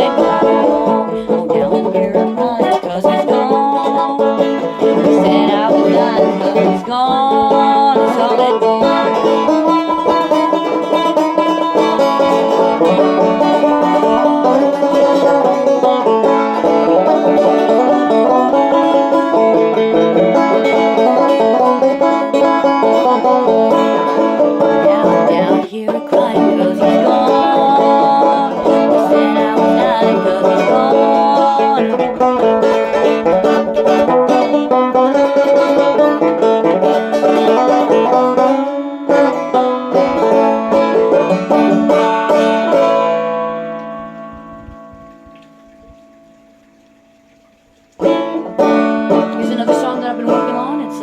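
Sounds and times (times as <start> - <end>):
banjo picking bluegrass tune: 0.0 - 51.0.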